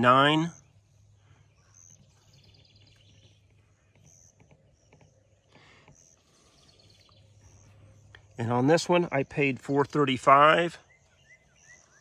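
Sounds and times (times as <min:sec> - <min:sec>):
faint birds chirping: 0:00.0 - 0:12.0
low steady hum: 0:00.0 - 0:12.0.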